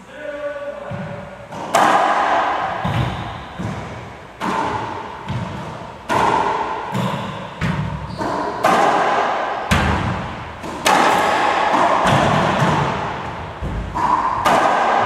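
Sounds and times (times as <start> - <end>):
racquetball smacks echoing: 0.9 - 15.0.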